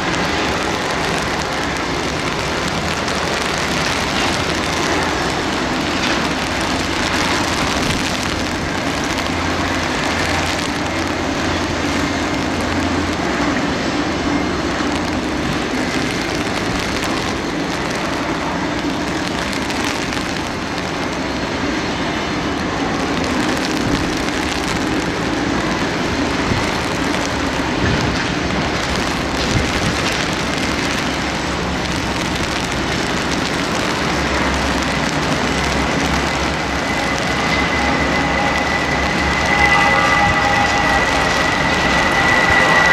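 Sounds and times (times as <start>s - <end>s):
faint high whine: 0.0s - 42.9s
jet aircraft noise: 0.0s - 42.9s
rain hissing: 0.0s - 42.9s.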